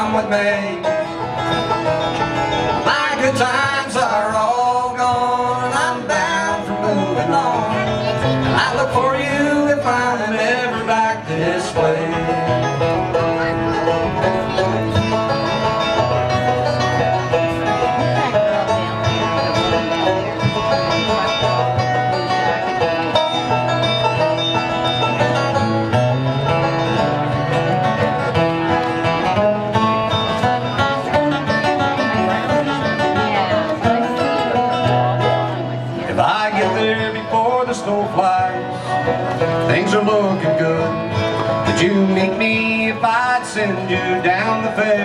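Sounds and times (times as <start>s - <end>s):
low bass line: 0.0s - 45.0s
plucked acoustic strings: 0.0s - 45.0s.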